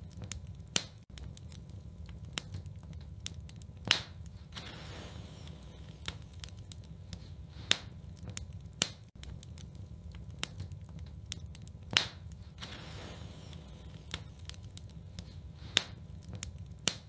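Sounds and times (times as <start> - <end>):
fire pops and crackles: 0.0 - 17.0
low rumble of flames: 0.0 - 17.0.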